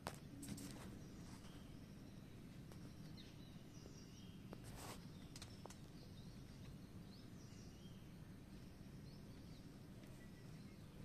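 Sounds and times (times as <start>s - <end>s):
low background rumble: 0.0s - 11.0s
faint bird chirps: 0.2s - 11.0s.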